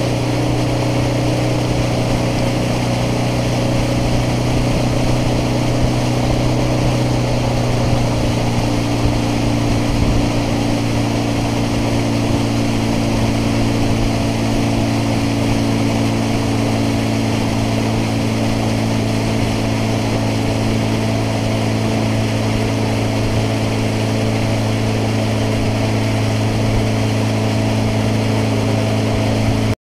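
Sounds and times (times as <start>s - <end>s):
outboard motor running: 0.0s - 29.8s
rush of wind and water: 0.0s - 29.8s.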